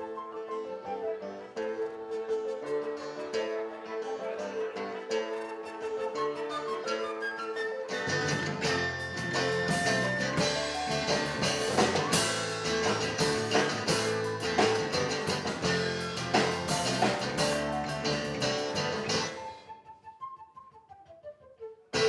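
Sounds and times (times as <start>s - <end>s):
rock band instrumental: 0.0s - 19.8s.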